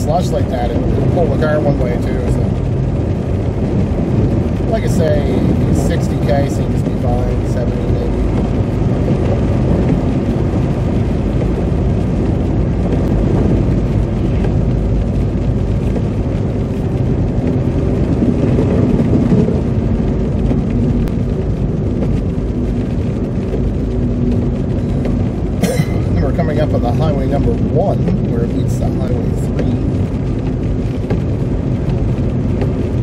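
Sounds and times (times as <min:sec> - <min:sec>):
tyres rumbling through slush: 0:00.0 - 0:33.0.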